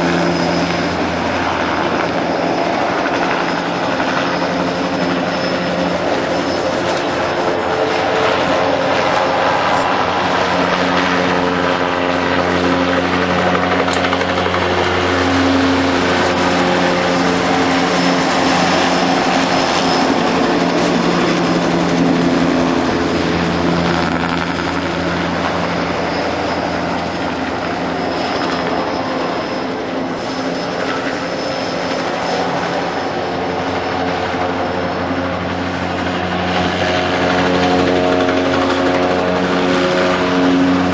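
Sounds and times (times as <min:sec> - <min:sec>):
helicopter flying overhead: 0:00.0 - 0:40.9.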